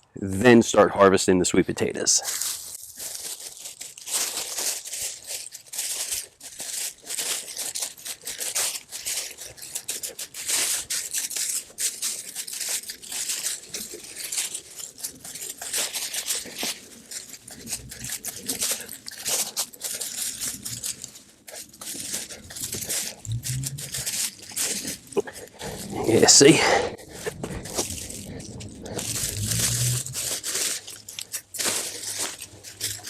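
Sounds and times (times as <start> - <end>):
dry leaves rustling and tearing: 1.8 - 33.0.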